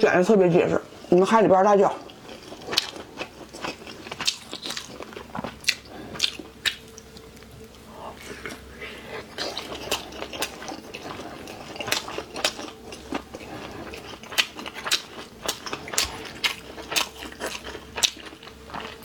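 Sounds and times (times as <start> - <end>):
close-miked chewing: 0.0 - 19.0.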